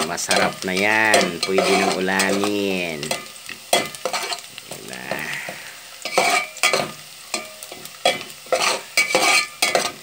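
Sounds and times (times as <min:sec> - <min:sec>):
onion and garlic sizzling in oil: 0:00.0 - 0:10.0
spoon scraping metal pot: 0:00.3 - 0:04.5, 0:06.0 - 0:10.0.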